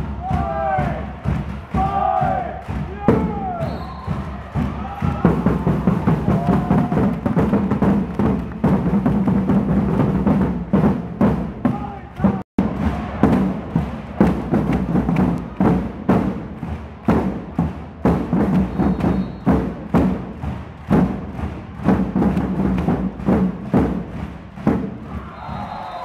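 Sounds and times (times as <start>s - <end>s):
drum hits at steady beat: 0.0s - 26.0s.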